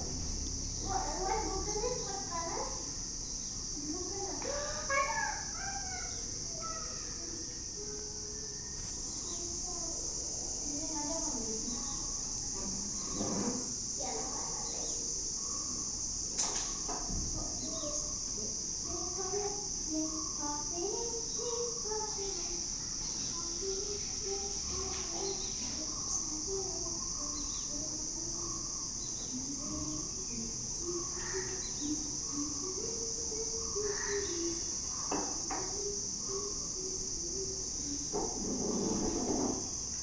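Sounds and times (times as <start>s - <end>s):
faint chirps: 0.0s - 40.0s
faint distant voices: 0.0s - 40.0s
insect chorus drone: 0.0s - 40.0s.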